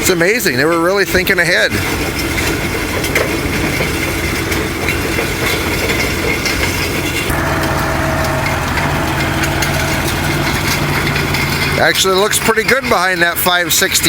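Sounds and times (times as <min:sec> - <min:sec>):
grain drill rattling and knocking: 0:00.0 - 0:14.0
tractor engine running: 0:00.0 - 0:14.0.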